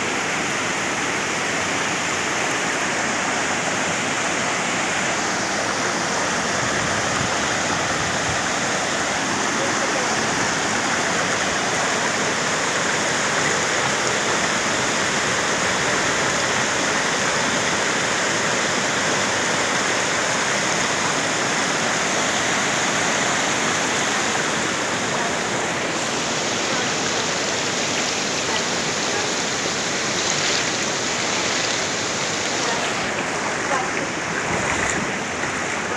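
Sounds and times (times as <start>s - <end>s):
river rushing: 0.0s - 35.9s.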